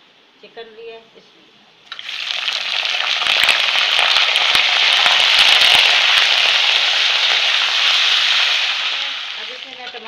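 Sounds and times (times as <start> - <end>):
chicken sizzling in hot oil: 1.9 - 10.0.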